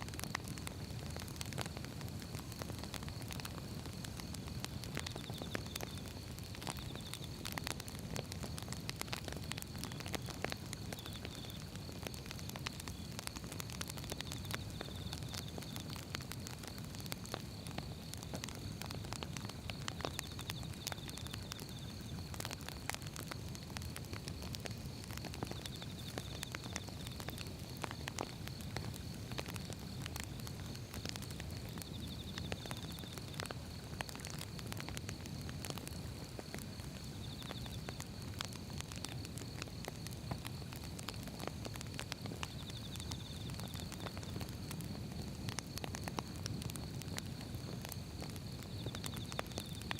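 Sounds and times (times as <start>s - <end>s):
faint high rapid ticking: 0.0s - 49.9s
firewood crackling and popping: 0.0s - 49.9s
low rumble of flames: 0.0s - 49.9s.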